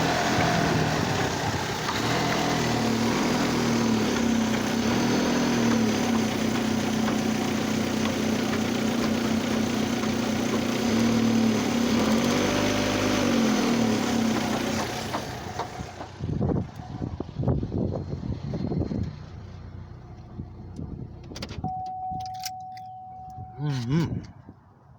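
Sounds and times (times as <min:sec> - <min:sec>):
car engine idling with misfire: 0:00.0 - 0:21.9.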